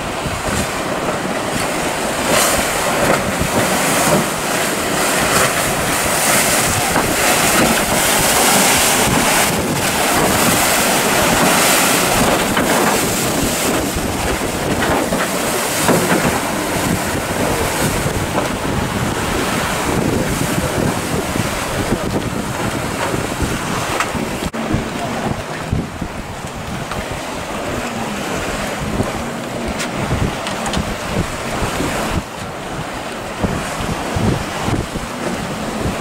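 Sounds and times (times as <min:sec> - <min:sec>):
boat bow wash churning: 0:00.0 - 0:36.0
waves breaking: 0:00.0 - 0:36.0
wind on microphone: 0:00.0 - 0:36.0.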